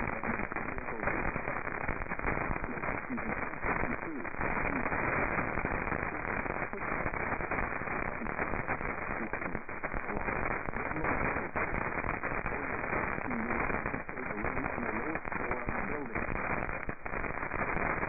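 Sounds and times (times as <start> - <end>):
faint radio voice: 0.0 - 16.9
crackling static: 0.0 - 18.0
radio hiss: 0.0 - 18.0.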